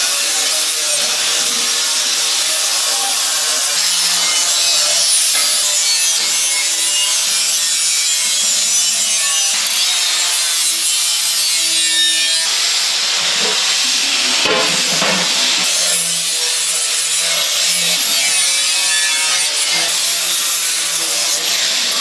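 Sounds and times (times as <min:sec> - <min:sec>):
harsh rasping of a tool: 0:00.0 - 0:22.0.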